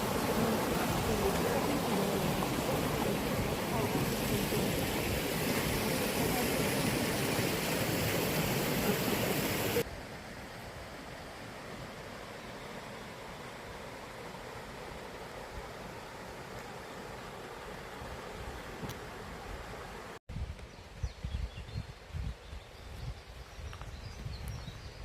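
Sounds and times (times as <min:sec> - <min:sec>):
stream water rushing: 0:00.0 - 0:20.2.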